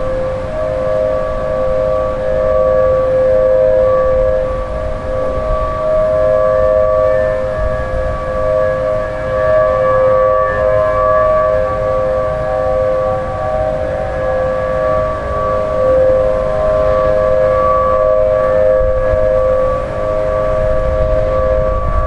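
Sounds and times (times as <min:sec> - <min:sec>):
tornado siren steady tone: 0:00.0 - 0:22.0.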